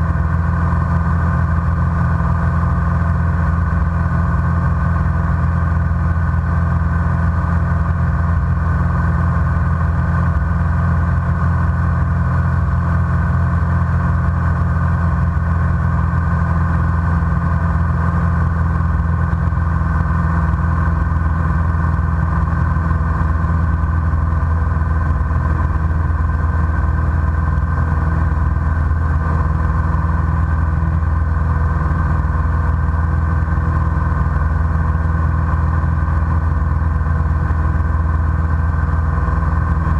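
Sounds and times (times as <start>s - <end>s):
propeller airplane engine drone: 0.0s - 39.9s.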